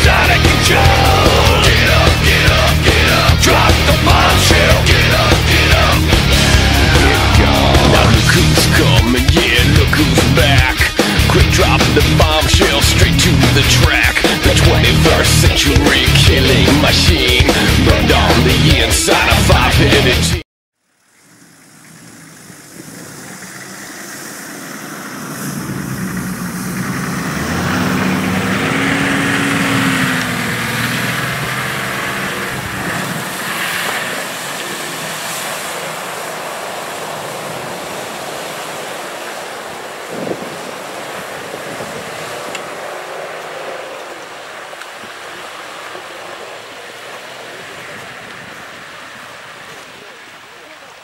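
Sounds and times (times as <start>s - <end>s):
water splashing and churning: 0.0s - 17.7s, 21.0s - 51.0s
engine running under load: 0.0s - 19.9s, 21.2s - 51.0s.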